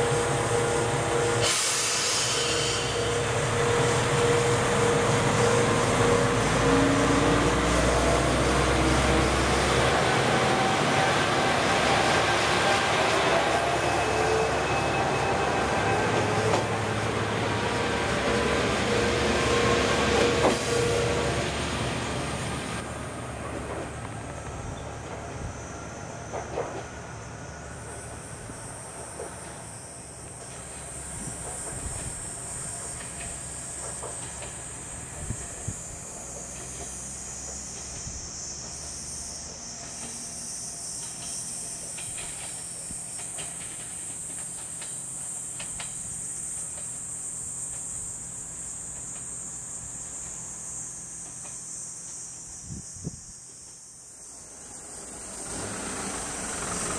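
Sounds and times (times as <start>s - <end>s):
cicada chorus droning: 0.0s - 22.8s, 24.6s - 56.9s
railcar engine and wheels: 0.0s - 56.9s.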